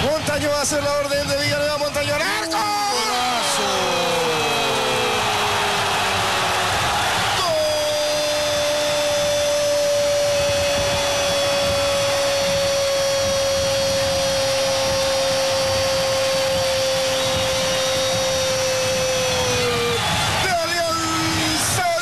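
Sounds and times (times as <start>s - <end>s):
stadium crowd celebrating: 0.0s - 22.0s.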